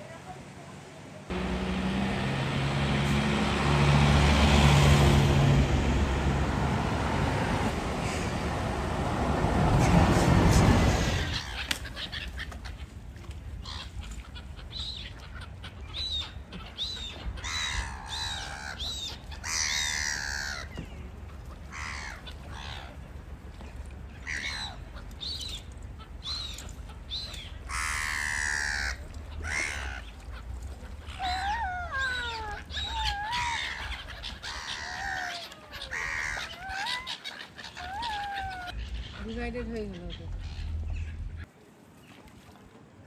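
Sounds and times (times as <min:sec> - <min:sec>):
harsh bird calls: 0:01.3 - 0:12.8, 0:13.6 - 0:41.5
birds chirping: 0:01.3 - 0:41.5.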